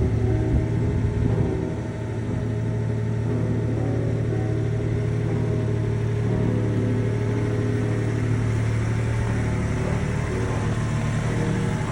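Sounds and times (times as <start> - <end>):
pickup engine idling: 0.0 - 11.9.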